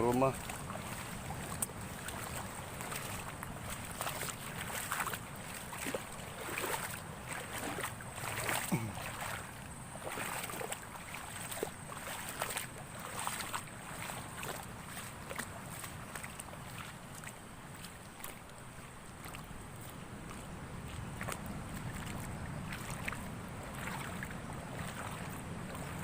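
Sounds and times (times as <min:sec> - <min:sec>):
small splashes: 0:00.0 - 0:26.0
wind: 0:00.0 - 0:26.0.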